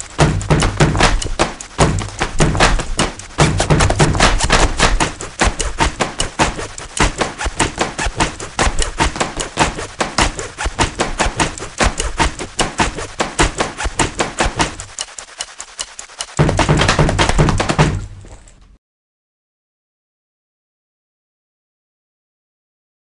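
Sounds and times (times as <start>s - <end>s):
rhythmic clicks and taps: 0.0s - 18.8s.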